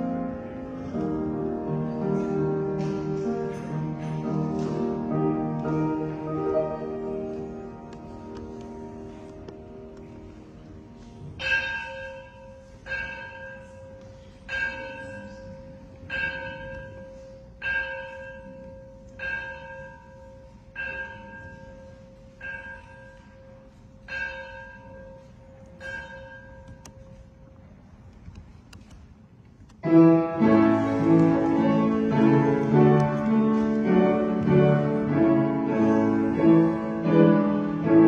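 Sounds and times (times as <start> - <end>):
church bell tolling: 0.0 - 27.5, 29.8 - 38.0.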